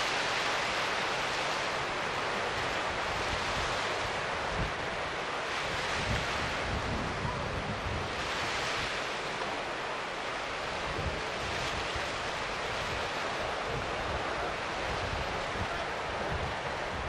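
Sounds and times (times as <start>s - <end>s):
sea waves washing: 0.0s - 17.0s
wind rumbling on microphone: 0.0s - 17.0s.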